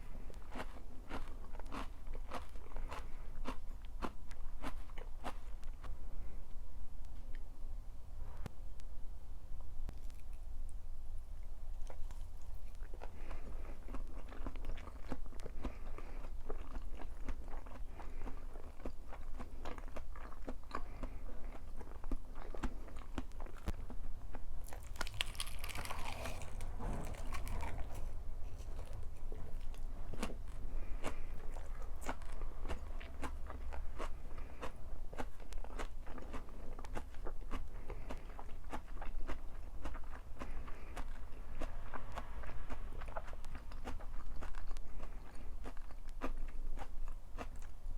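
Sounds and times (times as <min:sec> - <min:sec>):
chewing crunchy food: 0:00.0 - 0:06.4, 0:09.9 - 0:10.8, 0:11.4 - 0:47.9.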